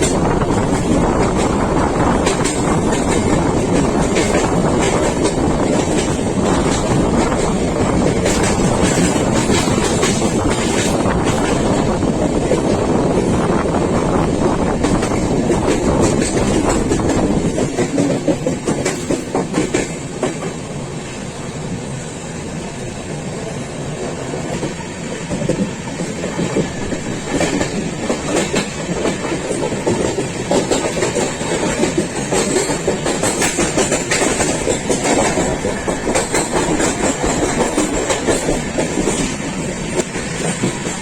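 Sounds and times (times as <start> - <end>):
train rumble: 0.0 - 41.0
train wheels clicking on rails: 0.0 - 41.0.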